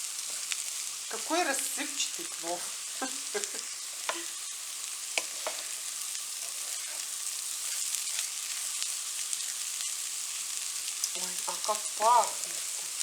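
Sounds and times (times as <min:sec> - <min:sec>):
rice sizzling in a skillet: 0:00.0 - 0:13.0.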